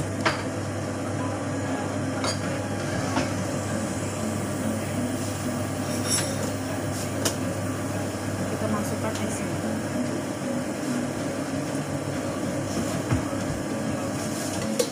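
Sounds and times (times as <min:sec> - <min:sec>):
espresso machine pump humming: 0:00.0 - 0:14.9.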